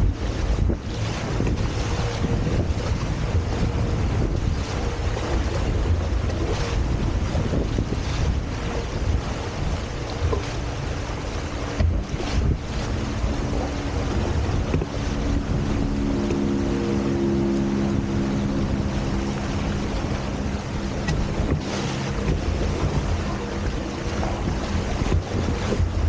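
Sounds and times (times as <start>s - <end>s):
steady low hum: 0.0s - 26.0s
water rushing past hulls: 0.0s - 26.0s
wind buffeting microphone: 0.0s - 26.0s.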